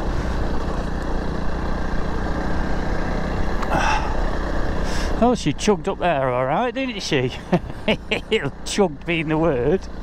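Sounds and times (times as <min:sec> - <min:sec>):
motorcycle engine chugging: 0:00.0 - 0:10.0.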